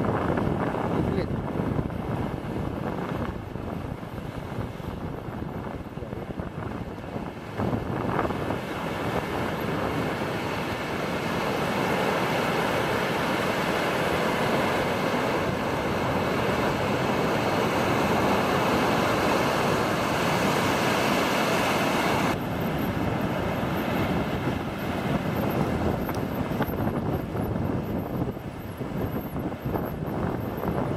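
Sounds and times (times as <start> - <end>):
wind buffeting microphone: 0.0 - 30.9
ocean surf breaking: 0.3 - 29.7.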